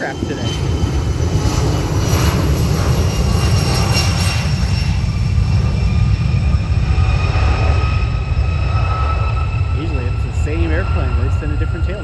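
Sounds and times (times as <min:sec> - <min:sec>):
airliner engines rumbling and whining: 0:00.0 - 0:12.0.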